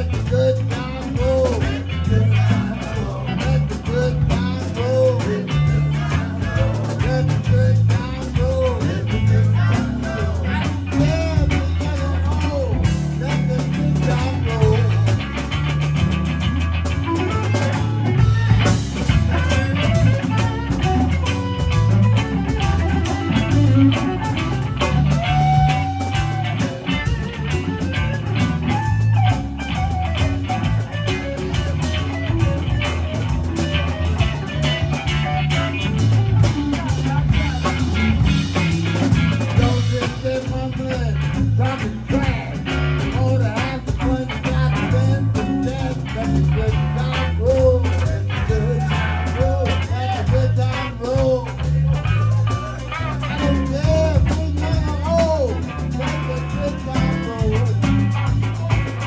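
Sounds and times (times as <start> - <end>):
blues band playing: 0.0 - 59.0
guitar: 0.0 - 59.0
pulsing bass line: 0.0 - 59.0.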